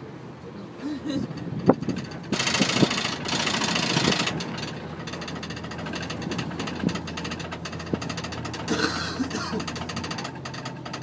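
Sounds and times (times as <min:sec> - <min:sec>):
boat engine running: 0:01.0 - 0:11.0.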